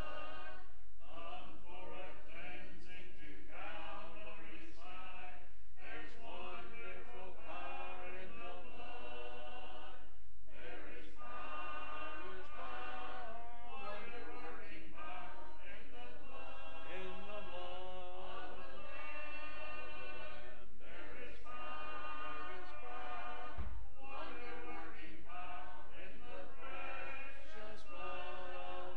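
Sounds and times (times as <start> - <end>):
congregation singing a hymn: 0.0 - 28.9.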